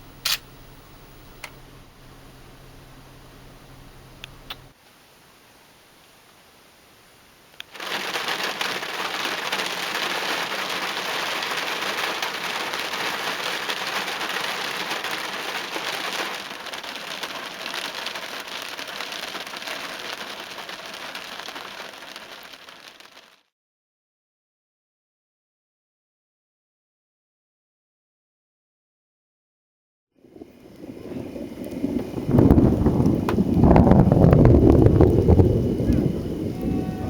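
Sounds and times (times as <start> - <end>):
heavy rain falling: 0.0 - 23.4, 30.4 - 37.0.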